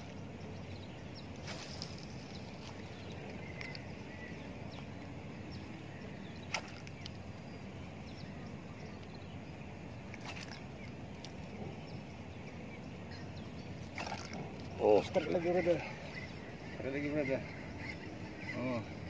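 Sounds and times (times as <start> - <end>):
faint bird chirps: 0.0 - 19.0
outdoor lakeside background noise: 0.0 - 19.0.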